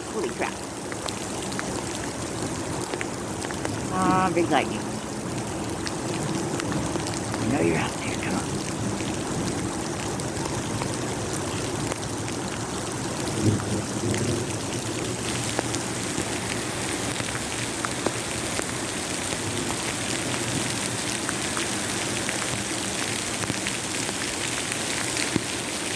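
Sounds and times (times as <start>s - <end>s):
steady rain: 0.0s - 25.9s.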